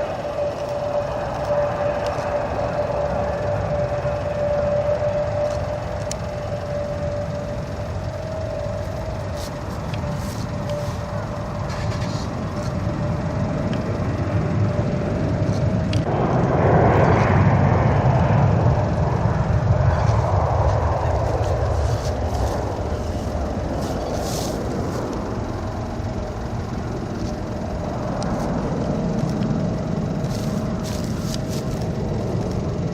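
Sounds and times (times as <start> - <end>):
vehicle rumble with whine: 0.0 - 32.9.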